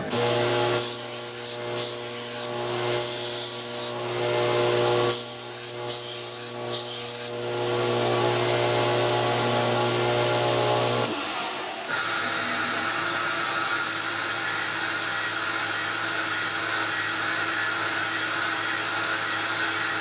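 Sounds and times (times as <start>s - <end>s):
electric bench tool humming: 0.0s - 20.0s.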